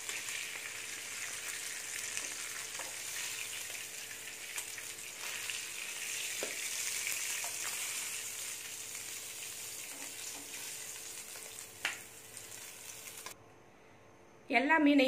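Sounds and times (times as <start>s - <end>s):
fish sizzling in hot oil: 0.0s - 13.4s.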